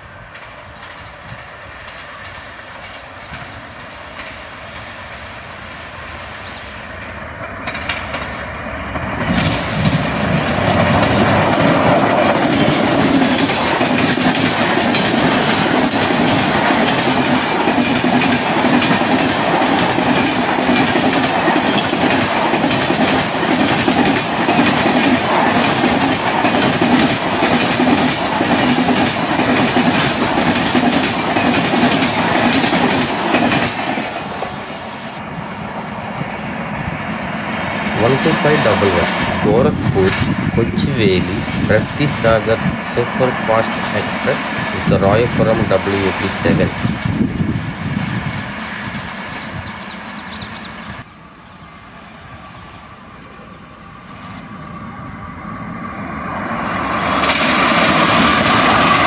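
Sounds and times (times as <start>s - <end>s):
electric train passing: 0.0s - 59.0s
wheels clickety-clack on rail joints: 0.3s - 5.4s, 6.4s - 36.4s, 37.5s - 51.1s, 56.2s - 59.0s.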